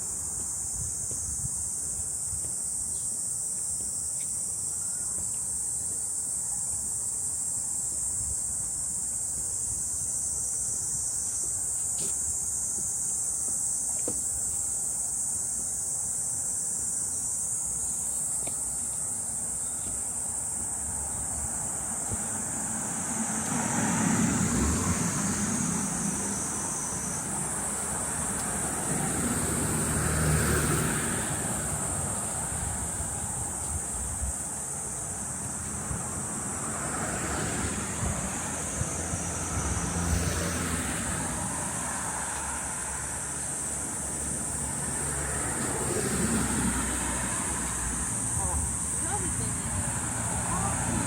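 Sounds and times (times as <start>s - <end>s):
insects droning: 0.0s - 51.0s.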